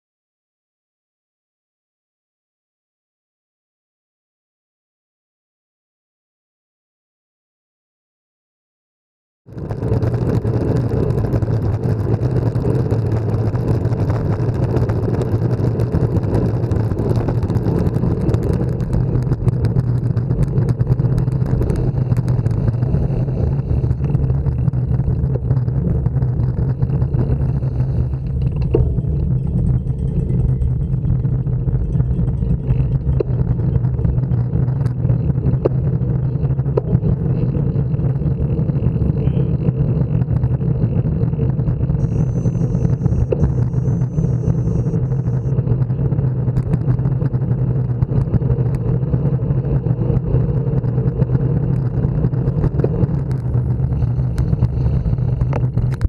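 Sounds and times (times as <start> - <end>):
wind rumble on microphone: 9.5 - 56.0.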